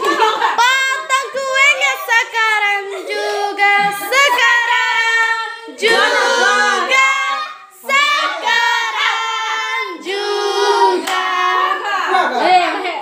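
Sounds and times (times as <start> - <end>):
children singing a birthday song: 0.2 - 12.4.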